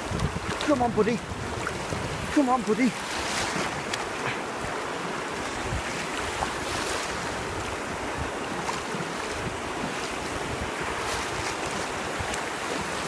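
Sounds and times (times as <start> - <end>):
surf washing over stones: 0.0 - 13.0
wind buffeting microphone: 0.0 - 13.0.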